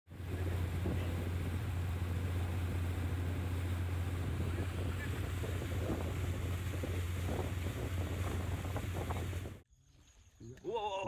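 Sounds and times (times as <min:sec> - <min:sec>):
boat engine droning: 0:00.1 - 0:09.6.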